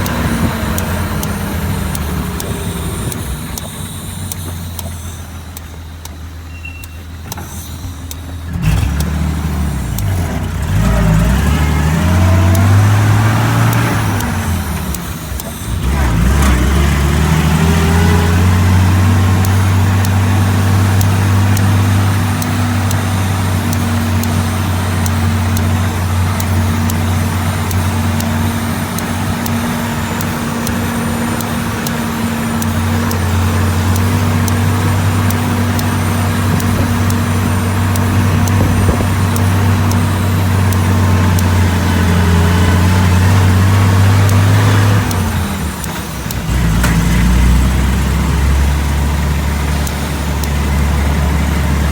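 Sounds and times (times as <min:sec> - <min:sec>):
truck engine droning: 0:00.0 - 0:51.9.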